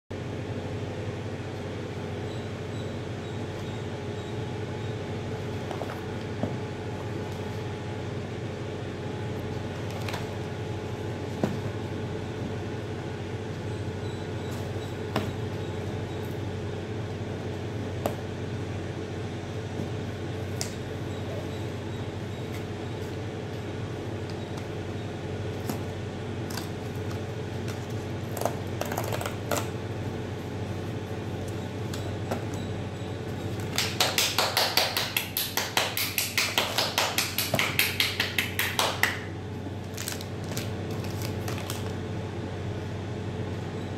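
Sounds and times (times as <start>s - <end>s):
machine hum: 0.1s - 43.9s.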